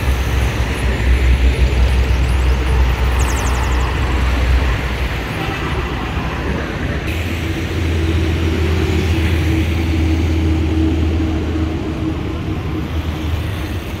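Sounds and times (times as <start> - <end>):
car and motorcycle engines: 0.0 - 14.0
low engine drone: 0.0 - 14.0.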